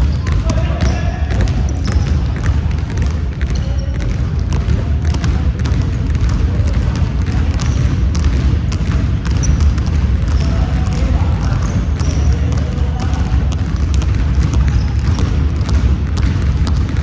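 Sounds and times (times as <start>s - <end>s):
basketball bouncing on court: 0.0s - 17.0s
sneakers squeaking: 0.0s - 17.0s.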